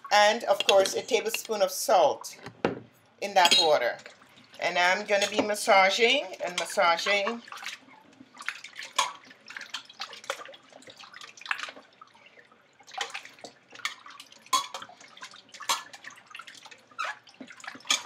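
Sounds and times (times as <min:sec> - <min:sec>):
water splashing in bowl: 0:03.5 - 0:18.0.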